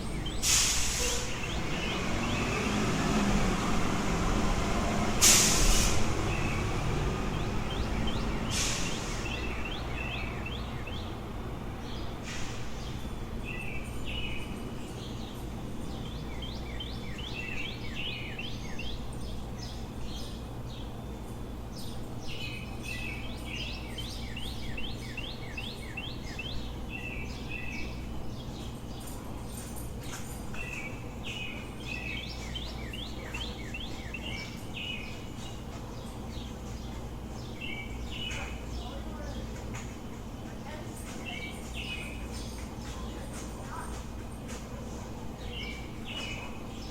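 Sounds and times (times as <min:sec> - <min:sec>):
low city rumble: 0:00.0 - 0:46.9
songbirds chirping: 0:00.0 - 0:46.9.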